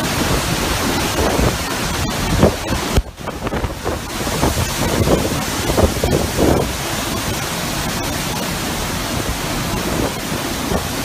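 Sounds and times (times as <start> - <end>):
strong wind and driving rain: 0.0 - 11.0.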